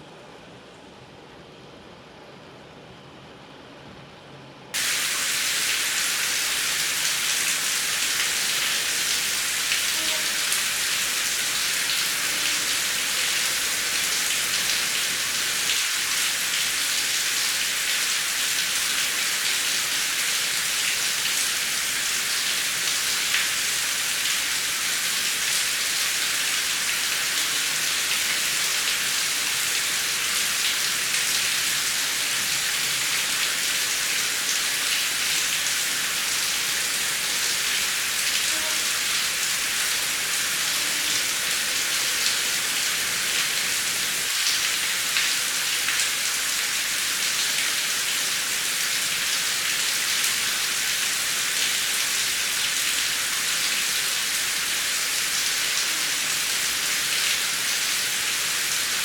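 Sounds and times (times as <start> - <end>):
heavy rain falling: 4.8 - 59.0.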